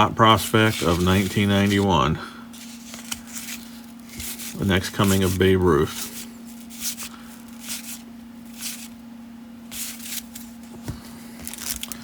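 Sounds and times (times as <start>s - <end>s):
faint steady hum: 0.0s - 12.0s
cards rustling and sliding: 0.3s - 9.0s, 9.7s - 12.0s.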